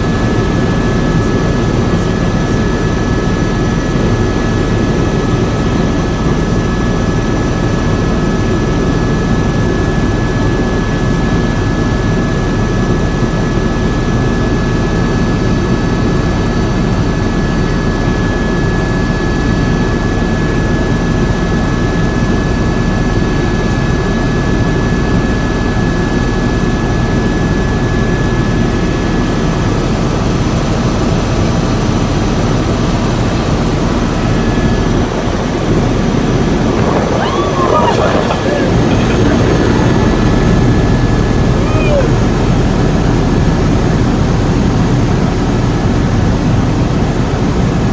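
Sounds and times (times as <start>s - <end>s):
helicopter turbine and rotor rumble: 0.0s - 47.9s
high helicopter whine: 0.0s - 47.9s.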